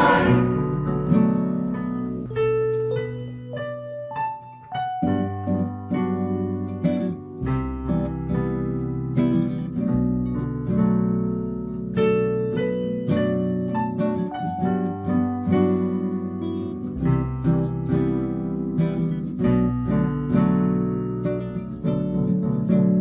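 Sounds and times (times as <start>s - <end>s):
plucked string chords and notes: 0.0s - 23.0s.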